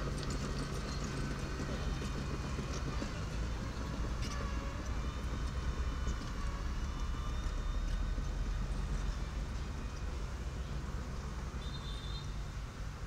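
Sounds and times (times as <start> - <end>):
diesel engine rumbling with whine: 0.0 - 13.0.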